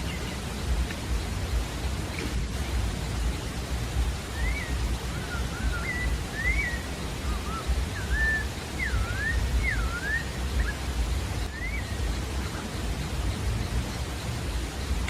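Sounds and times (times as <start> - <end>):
background hiss: 0.0 - 15.0
low rumble: 0.0 - 15.0
thrush whistled song: 0.0 - 15.0.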